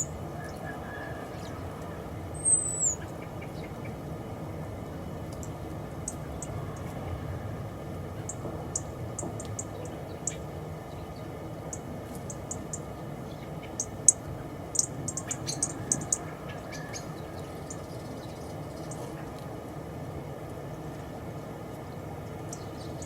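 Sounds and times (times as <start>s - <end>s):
small birds chirping: 0.0s - 4.2s, 5.2s - 7.3s, 8.2s - 19.6s, 21.7s - 23.0s
steady low rumble: 0.0s - 23.0s.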